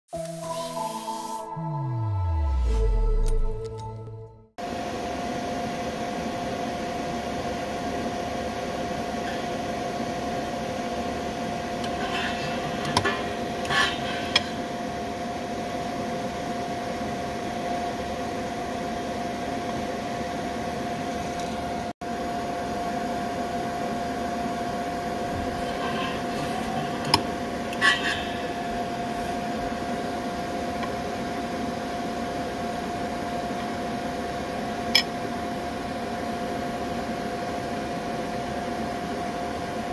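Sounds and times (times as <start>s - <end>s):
welding bench hum: 2.3s - 39.9s.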